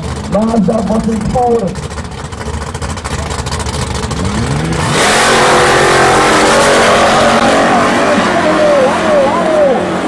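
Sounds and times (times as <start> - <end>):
drag car engine revving: 0.0 - 10.0.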